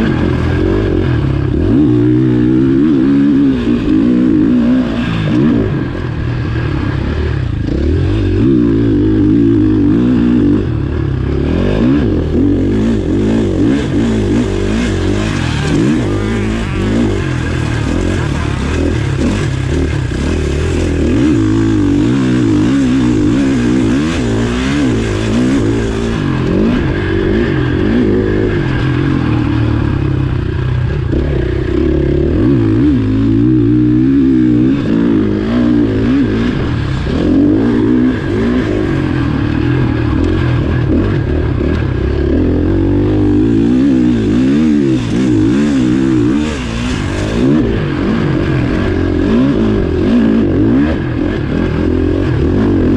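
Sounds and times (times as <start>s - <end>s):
motocross engine revving: 0.0s - 52.9s.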